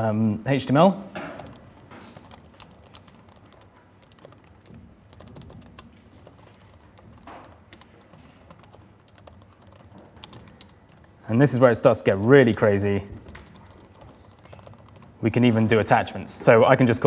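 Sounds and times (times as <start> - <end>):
laptop keyboard typing: 1.1 - 16.1.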